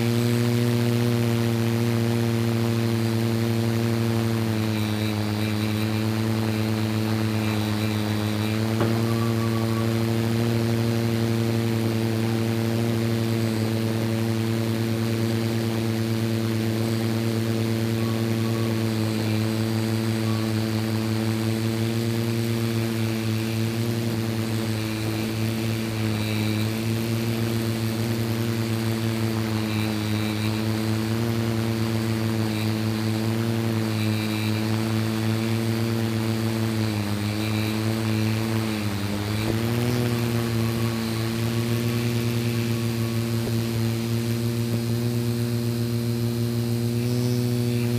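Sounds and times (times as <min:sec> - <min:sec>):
drone propellers humming: 0:00.0 - 0:47.9.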